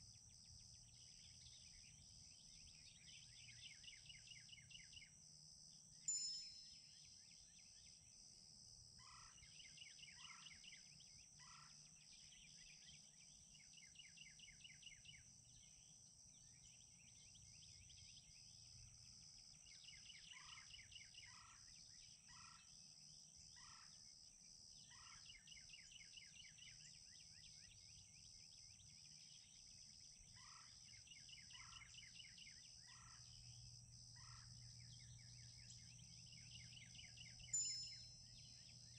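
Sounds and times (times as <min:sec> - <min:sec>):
insect hum with trills: 0:00.0 - 0:38.9.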